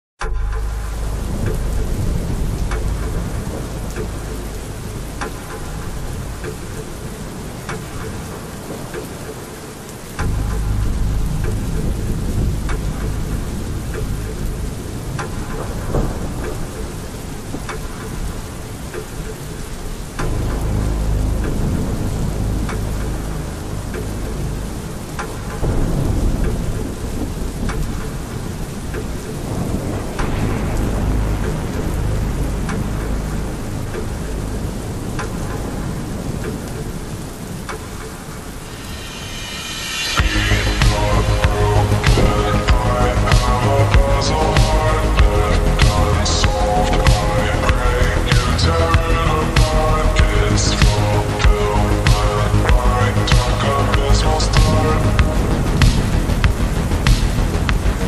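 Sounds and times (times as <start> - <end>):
drop crackles: 0.2 - 58.0
heavy rain: 0.2 - 58.0
sharp water drip: 0.2 - 58.0
thunder rumble: 0.2 - 58.0.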